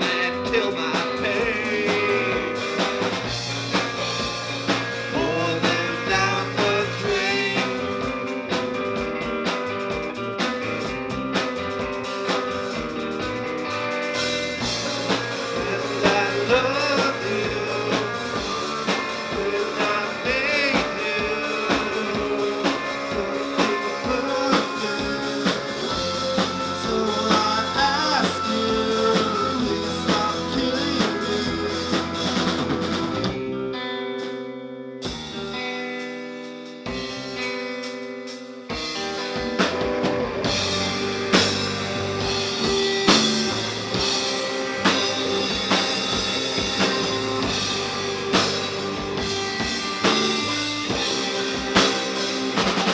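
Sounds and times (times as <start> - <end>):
bass guitar: 0.0 - 52.9
drum kit: 0.0 - 52.9
lead guitar with bent notes: 0.0 - 52.9.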